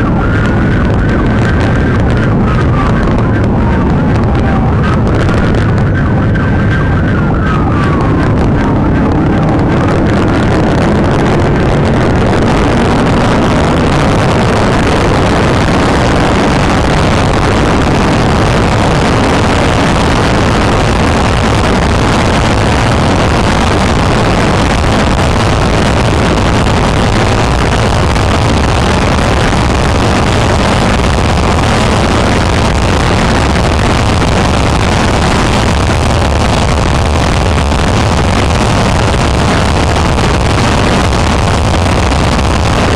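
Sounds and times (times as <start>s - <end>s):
car engine tyre and wind noise: 0.0s - 42.9s.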